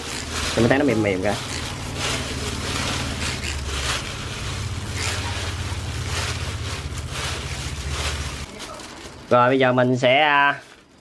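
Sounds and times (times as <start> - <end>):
rice paper rustling and crinkling: 0.0 - 11.0.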